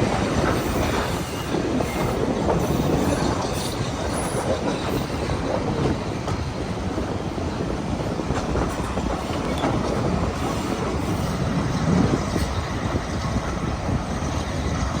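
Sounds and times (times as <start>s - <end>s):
train rumbling: 0.0s - 15.0s
wheels clicking on rails: 0.0s - 15.0s.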